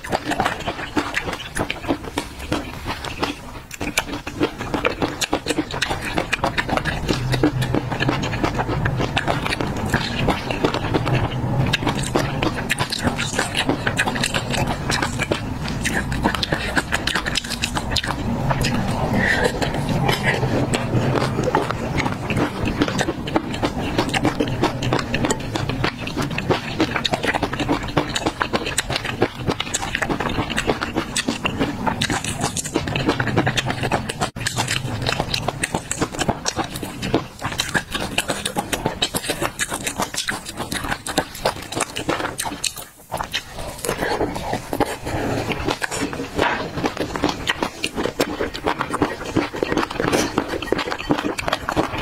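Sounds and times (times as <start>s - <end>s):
chewing crunchy peanuts: 0.0s - 52.0s
mouth clicks: 0.0s - 52.0s.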